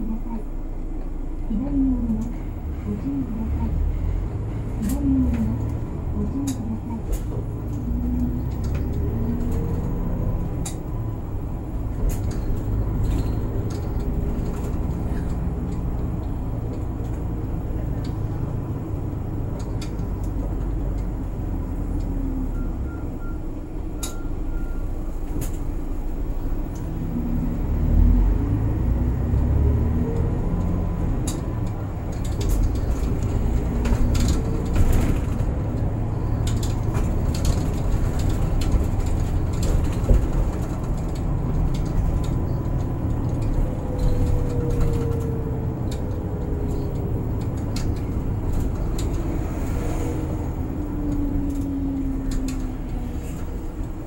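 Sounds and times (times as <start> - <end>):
bus engine and road rumble: 0.0 - 54.0
clicks and rattles from bus body: 4.5 - 27.0, 28.5 - 54.0.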